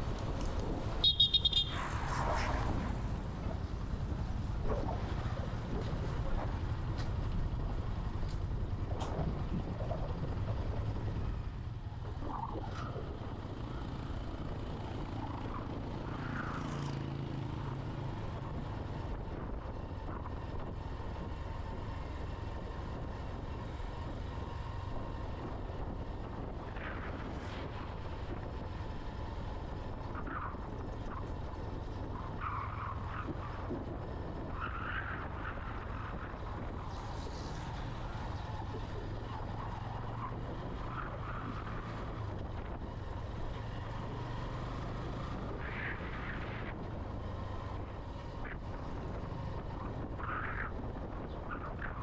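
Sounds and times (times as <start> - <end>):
vehicle rumble on road: 0.0 - 52.0.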